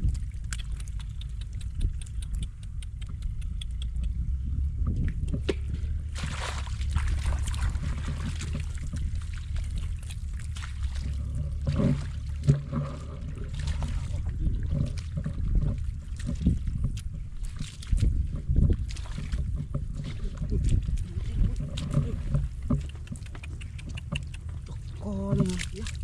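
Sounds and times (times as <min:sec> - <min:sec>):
water sloshing and splashing: 0:00.0 - 0:04.0, 0:04.7 - 0:26.0
steady low rumble: 0:00.0 - 0:26.0.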